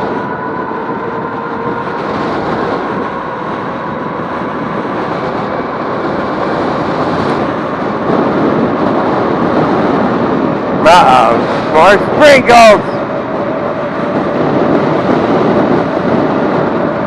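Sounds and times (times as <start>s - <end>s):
road noise: 0.0s - 17.0s
rushing wind: 0.0s - 17.0s.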